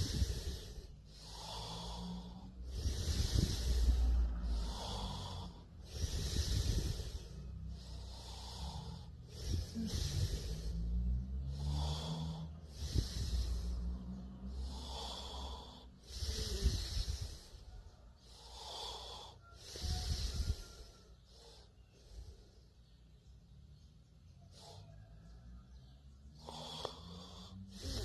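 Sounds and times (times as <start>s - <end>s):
person snoring: 0.0s - 22.3s, 26.3s - 28.0s.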